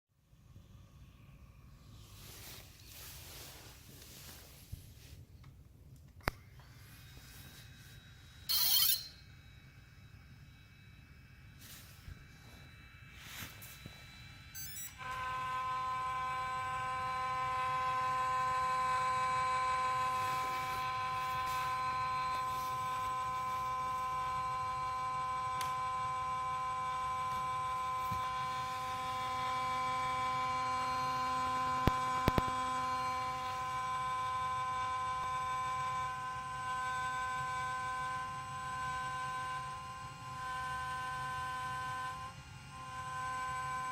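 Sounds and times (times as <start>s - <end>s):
camera gimbal buzzing whine: 6.4s - 43.9s.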